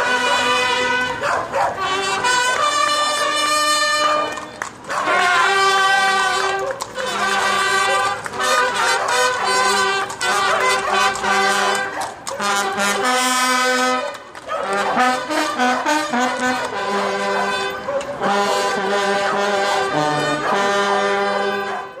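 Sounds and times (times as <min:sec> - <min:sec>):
trumpets playing long held notes: 0:00.0 - 0:22.0.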